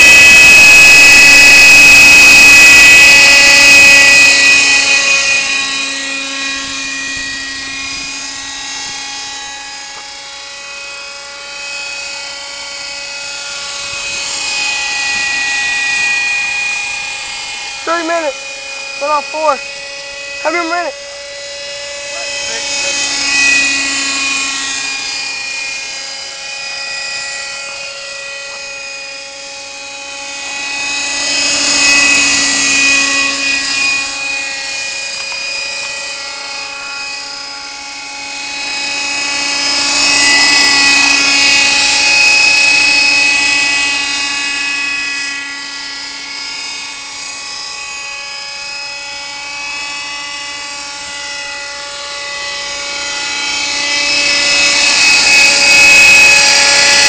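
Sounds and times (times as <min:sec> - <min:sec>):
model helicopter engine whine: 0:00.0 - 0:57.0.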